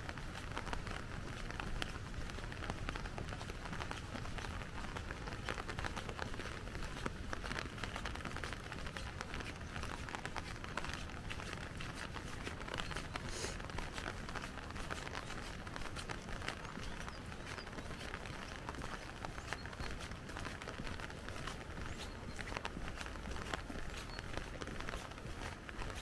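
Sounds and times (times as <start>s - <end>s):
hiss of rain: 0.0s - 26.0s
rain tapping on umbrella: 0.0s - 26.0s.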